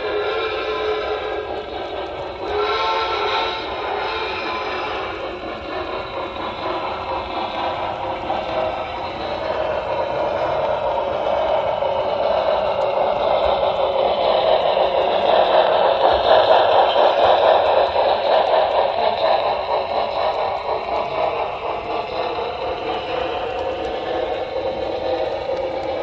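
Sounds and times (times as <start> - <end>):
model train wheels whirring: 0.0 - 26.0.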